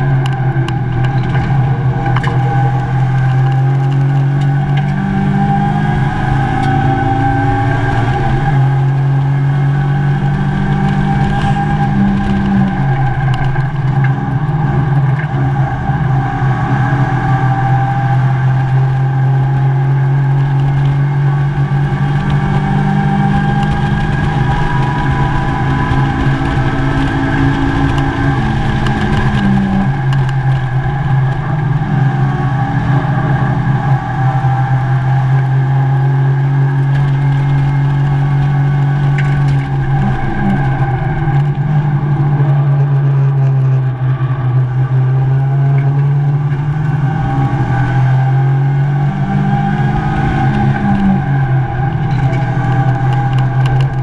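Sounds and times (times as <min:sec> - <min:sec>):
constant low drone: 0:00.0 - 0:54.0
race car engine revving: 0:00.0 - 0:54.0.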